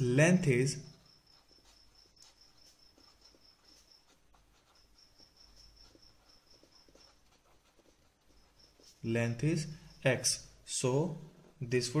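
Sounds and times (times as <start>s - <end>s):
marker pen strokes on paper: 0.5s - 10.4s.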